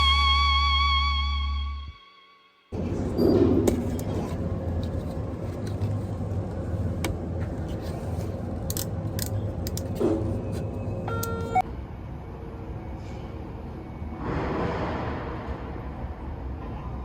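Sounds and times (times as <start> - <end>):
diesel engine drone: 2.8 - 16.7.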